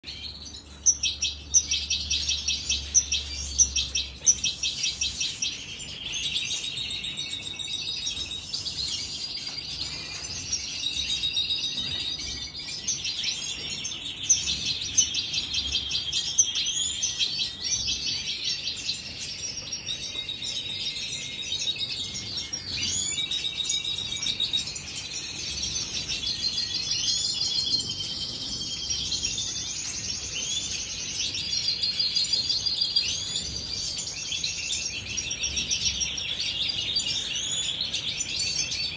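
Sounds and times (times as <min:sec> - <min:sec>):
finches twittering chorus: 0:00.1 - 0:38.9.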